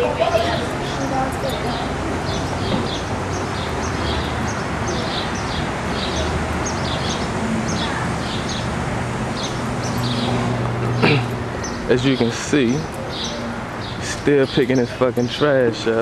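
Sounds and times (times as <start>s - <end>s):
bird chirping high downward: 0.0s - 16.0s
outdoor background hiss: 0.0s - 16.0s.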